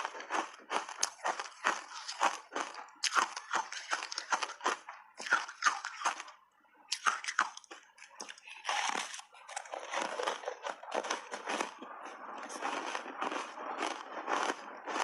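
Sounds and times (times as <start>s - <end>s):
ice being crunched in mouth: 0.0s - 6.3s, 6.9s - 15.0s.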